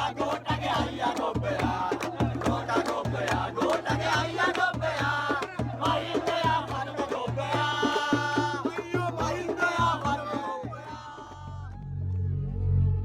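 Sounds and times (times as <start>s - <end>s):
song with drums bass and vocals: 0.0s - 11.7s.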